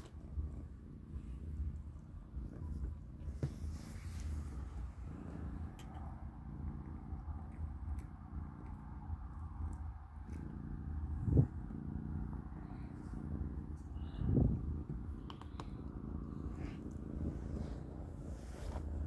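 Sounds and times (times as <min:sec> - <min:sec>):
kitten purring: 0:00.0 - 0:19.0.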